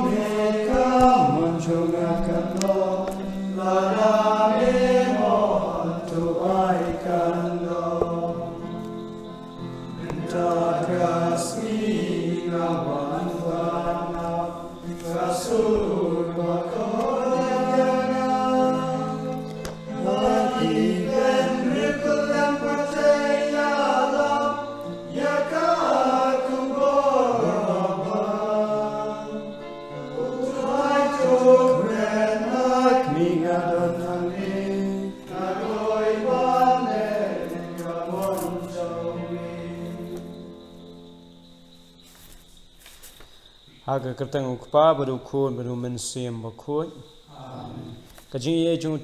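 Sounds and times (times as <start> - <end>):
people singing a hymn: 0.0 - 41.4.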